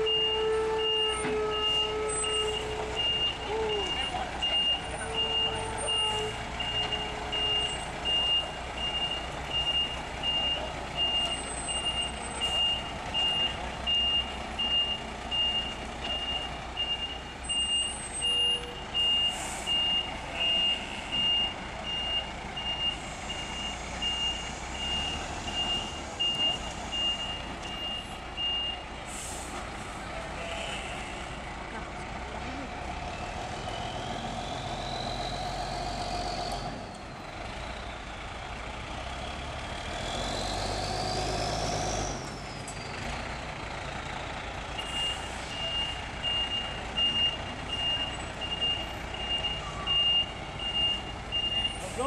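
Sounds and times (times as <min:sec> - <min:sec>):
truck backup alarm beeping: 0:00.0 - 0:31.4, 0:39.8 - 0:52.0.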